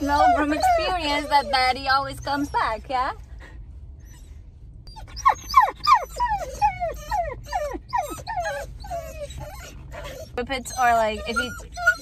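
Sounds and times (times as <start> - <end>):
dogs whining: 0.0 - 2.8, 4.9 - 12.0.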